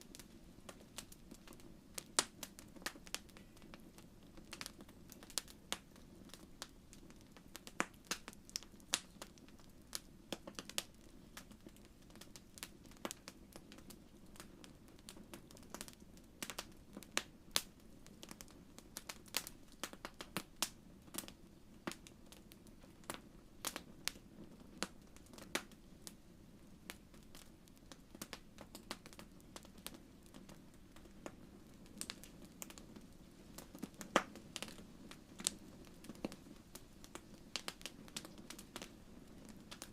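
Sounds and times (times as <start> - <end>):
low steady fire rumble: 0.0 - 39.9
wood fire crackling and popping: 0.0 - 39.9.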